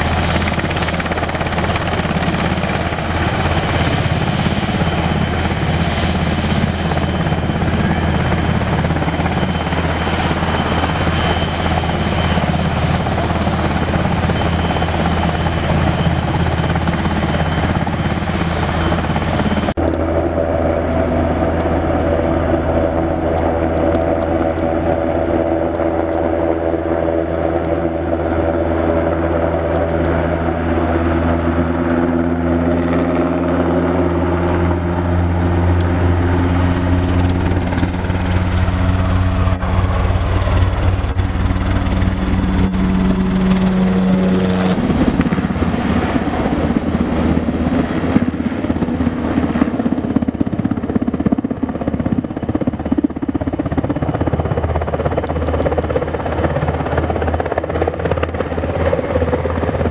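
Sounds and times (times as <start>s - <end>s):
helicopter engine whining tones: 0.0s - 59.9s
helicopter rotor drone: 0.0s - 59.9s
rough noisy rotor sound: 0.0s - 59.9s.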